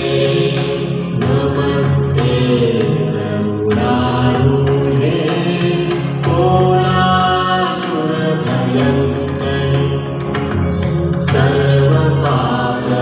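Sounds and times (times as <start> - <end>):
chant-like singing: 0.0 - 13.0
instrumental backing: 0.0 - 13.0.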